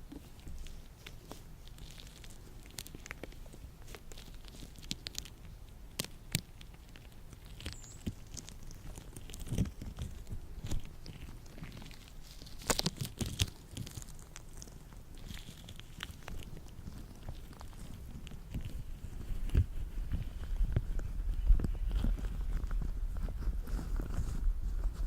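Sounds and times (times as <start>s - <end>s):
latex gloves rubbing and snapping: 0.0s - 25.0s.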